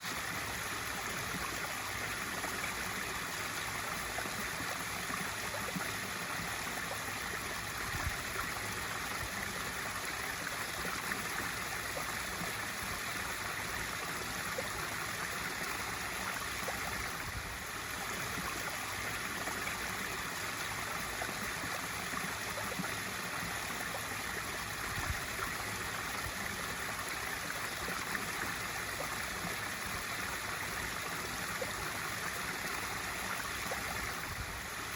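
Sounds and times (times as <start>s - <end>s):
water pouring into pool: 0.0s - 34.9s.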